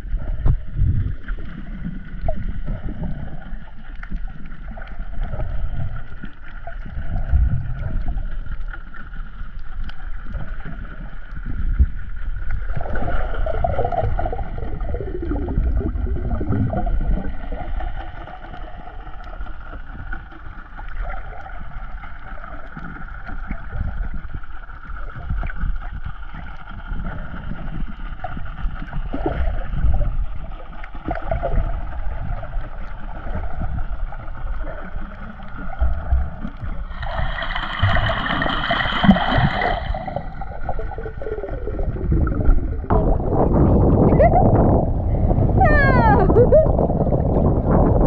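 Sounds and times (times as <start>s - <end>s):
underwater water rumbling and sloshing: 0.0s - 48.0s.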